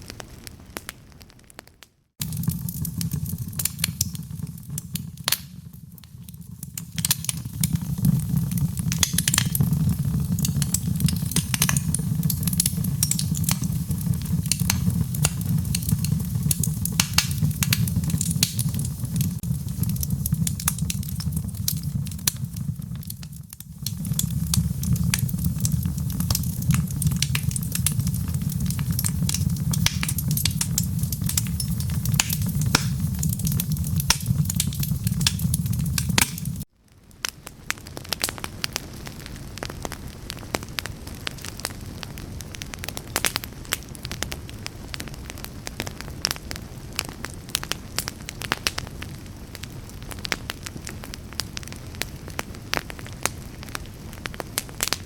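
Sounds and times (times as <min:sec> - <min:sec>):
fire popping and snapping: 0:00.0 - 0:55.0
wood fire crackling: 0:00.0 - 0:55.0.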